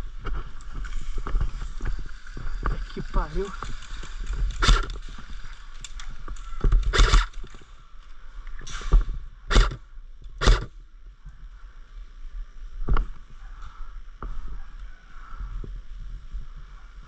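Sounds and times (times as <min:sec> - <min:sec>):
low wind rumble on microphone: 0:00.0 - 0:17.0.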